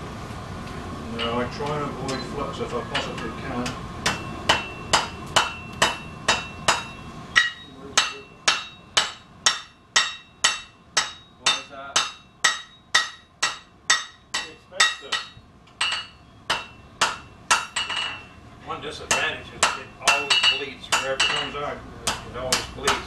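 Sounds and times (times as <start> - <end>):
hammer striking steel on anvil: 2.9 - 18.3, 19.1 - 23.0.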